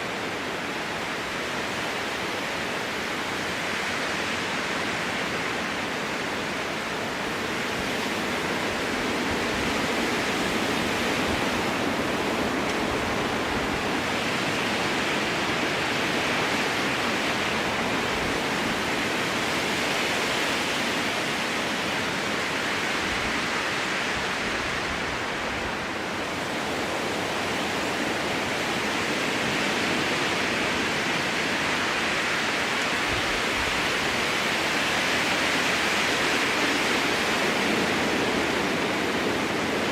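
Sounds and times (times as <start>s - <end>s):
strong wind through trees: 0.0s - 39.9s.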